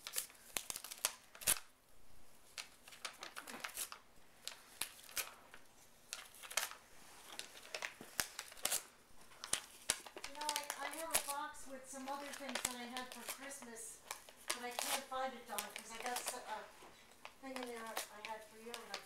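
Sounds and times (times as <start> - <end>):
rabbit tearing paper: 0.0 - 1.7, 2.5 - 5.5, 6.1 - 19.0.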